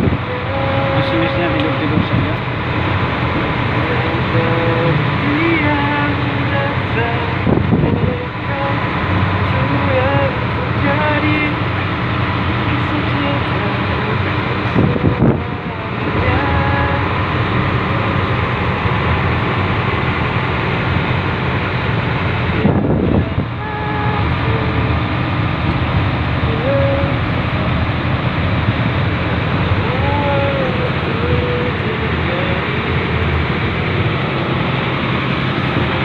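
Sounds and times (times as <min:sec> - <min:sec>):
locomotive engine drone: 0:00.0 - 0:36.0
train rolling noise: 0:00.0 - 0:36.0.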